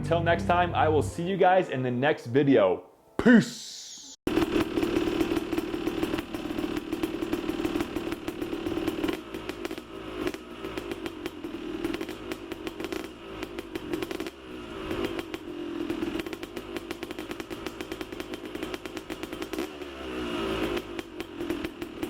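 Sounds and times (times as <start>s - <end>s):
motorcycle engine running: 4.3s - 22.0s.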